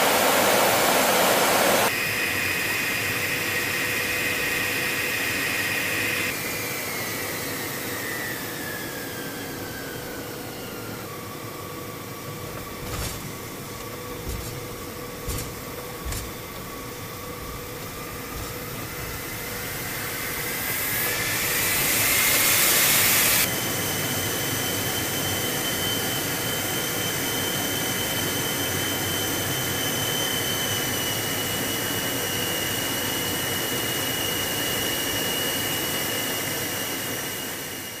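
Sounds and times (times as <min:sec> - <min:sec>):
high jet engine whine: 0:00.0 - 0:38.0
jet engines rushing: 0:00.0 - 0:38.0.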